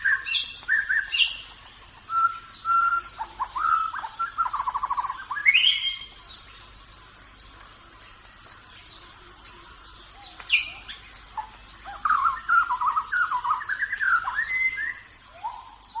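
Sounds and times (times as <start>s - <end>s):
birds calling: 0.0s - 16.0s
high-pitched insect hum: 0.0s - 16.0s.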